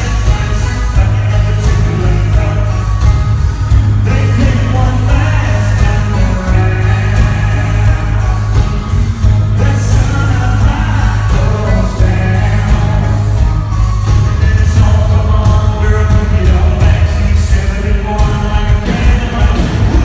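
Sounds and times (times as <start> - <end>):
heavy drum beat: 0.0 - 20.0
live country band: 0.0 - 20.0
man singing: 0.0 - 20.0.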